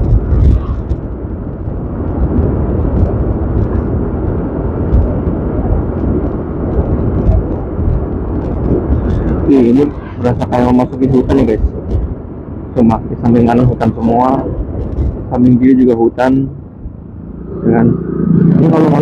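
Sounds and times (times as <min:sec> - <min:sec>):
tyre noise: 0:00.0 - 0:16.5
wind buffeting microphone: 0:00.0 - 0:19.0.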